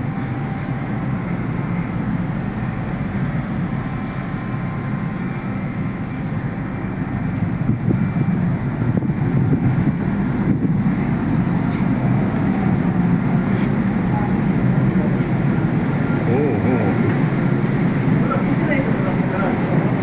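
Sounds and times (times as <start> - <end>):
ferry engines rumbling: 0.0 - 20.0.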